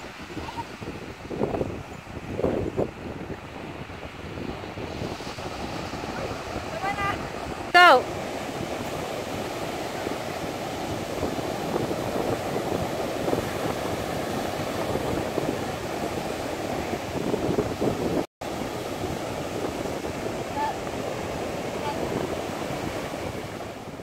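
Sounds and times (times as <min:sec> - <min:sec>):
ocean surf breaking: 0:00.0 - 0:24.0
wind on the microphone: 0:00.0 - 0:24.0.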